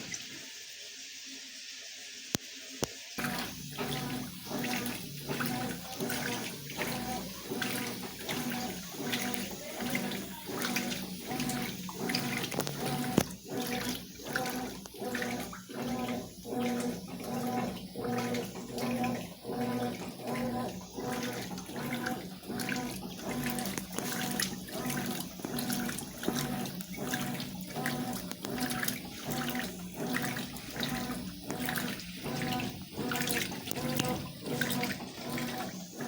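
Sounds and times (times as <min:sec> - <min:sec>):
washing machine motor hum: 0:03.2 - 0:36.0
water sloshing: 0:03.2 - 0:36.0.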